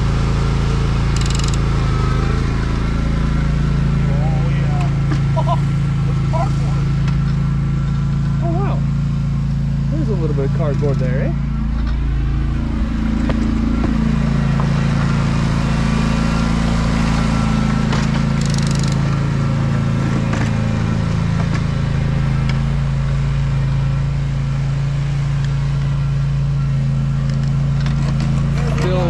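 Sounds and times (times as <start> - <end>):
mower engine humming: 0.0 - 29.0.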